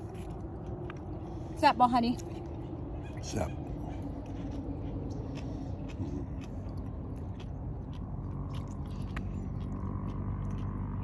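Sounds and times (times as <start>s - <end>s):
person chewing food: 0.0s - 1.6s, 2.2s - 11.0s
low background rumble: 0.0s - 11.0s.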